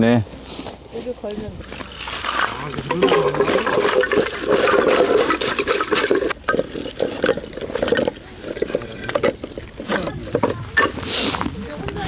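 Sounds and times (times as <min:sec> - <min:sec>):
firewood clattering onto gravel: 0:01.7 - 0:12.0.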